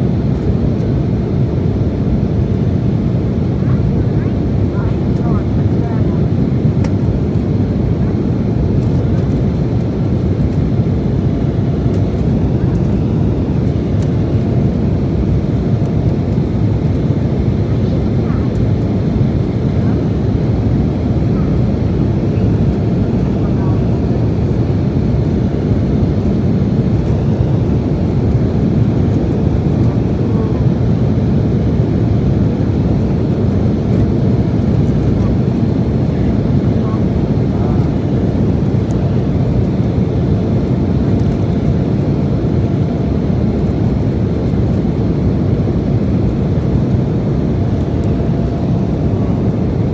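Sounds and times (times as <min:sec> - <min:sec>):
jet engine cabin rumble: 0:00.0 - 0:49.9.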